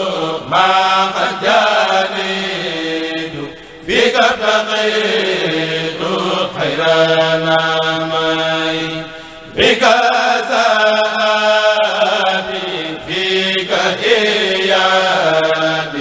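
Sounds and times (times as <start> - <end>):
group of men chanting: 0.0 - 16.0.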